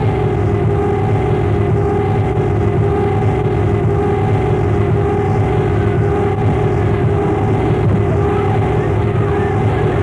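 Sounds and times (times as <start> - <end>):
machine drone: 0.0 - 10.0.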